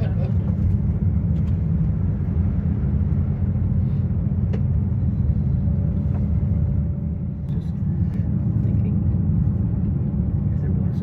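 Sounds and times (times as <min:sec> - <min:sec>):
aerial tram cabin rumble: 0:00.0 - 0:11.0.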